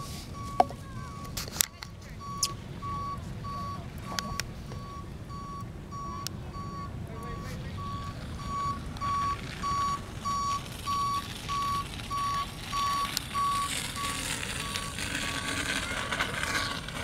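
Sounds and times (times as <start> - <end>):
truck reversing alarm beeping: 0.0 - 17.0.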